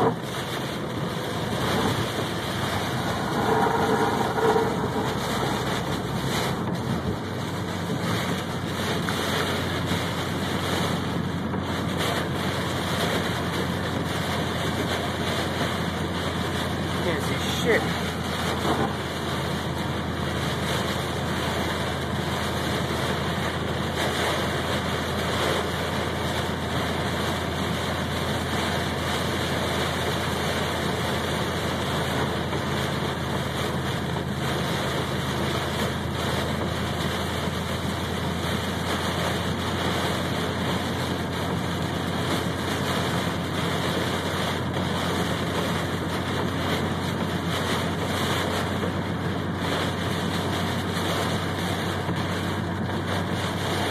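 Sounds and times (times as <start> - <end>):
heavy rain on a car: 0.0 - 53.9
low engine drone: 0.0 - 53.9
tyres hissing on wet road: 0.0 - 53.9.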